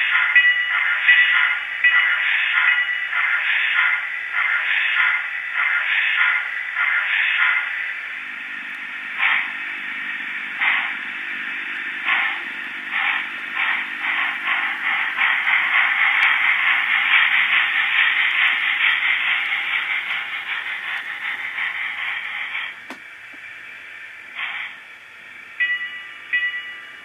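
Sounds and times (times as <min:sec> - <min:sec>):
model steam locomotive chuffs: 0:00.0 - 0:27.0
steady hiss: 0:00.0 - 0:27.0.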